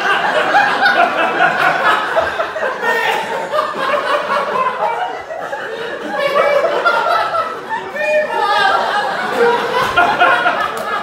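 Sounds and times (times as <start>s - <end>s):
crowd laughing: 0.0s - 11.0s.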